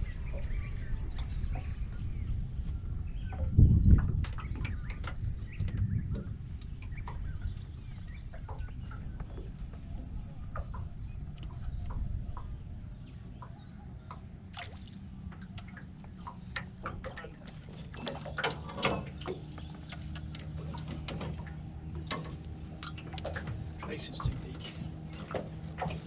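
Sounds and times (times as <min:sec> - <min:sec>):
steady low rumble: 0:00.0 - 0:26.0
water lapping against metal hull: 0:00.0 - 0:26.0.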